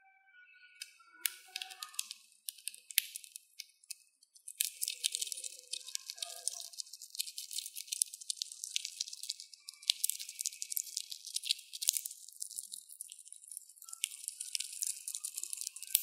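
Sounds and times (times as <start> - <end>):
hamster gnawing seed shells: 0.8 - 16.0.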